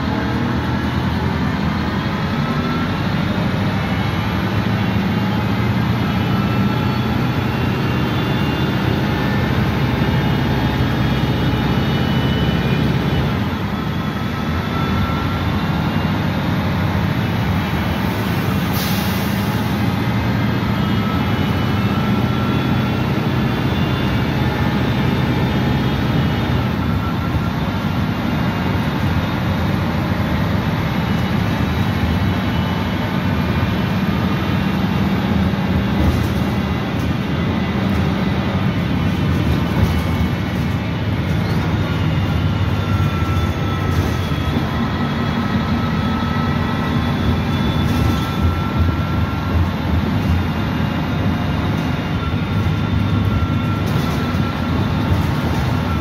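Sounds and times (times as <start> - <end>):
bus engine rumbling: 0.0 - 56.0.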